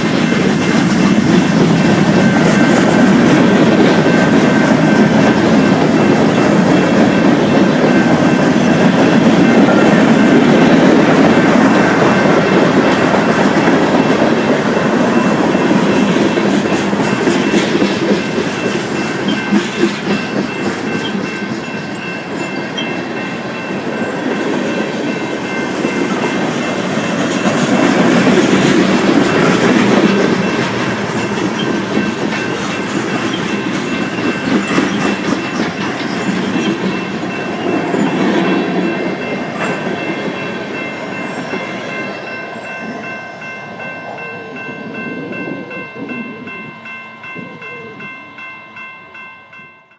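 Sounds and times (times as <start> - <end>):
wheels clacking over rail joints: 0.0 - 43.2
train cars rumbling past: 0.0 - 49.8.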